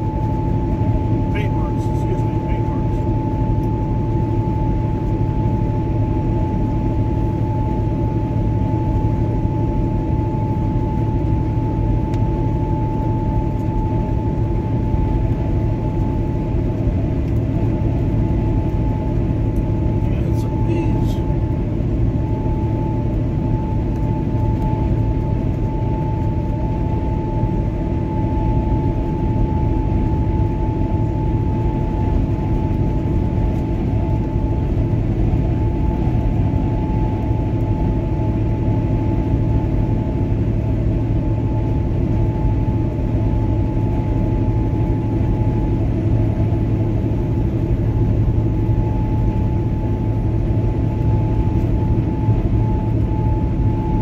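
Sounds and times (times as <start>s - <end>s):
high whine: 0.0s - 54.0s.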